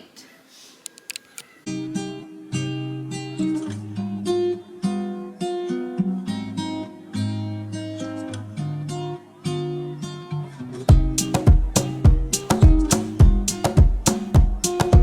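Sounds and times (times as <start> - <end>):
acoustic guitar playing: 1.6 - 15.0.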